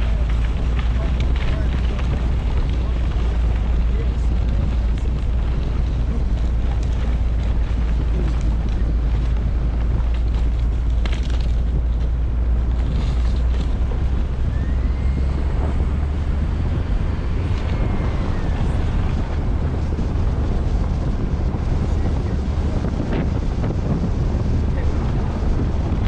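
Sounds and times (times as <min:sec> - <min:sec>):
low rumble of motion: 0:00.0 - 0:26.0
wind buffeting microphone: 0:00.0 - 0:26.0.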